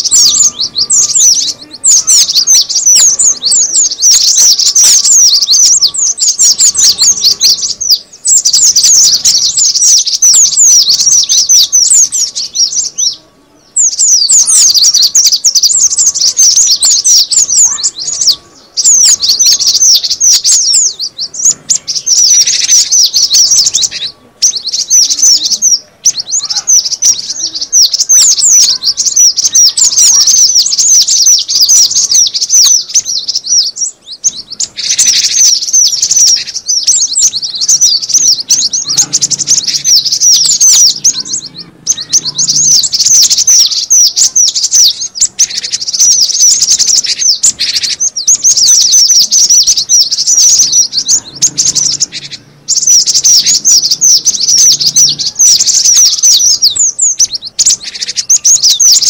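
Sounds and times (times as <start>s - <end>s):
bird chattering chirps: 0.0s - 59.0s.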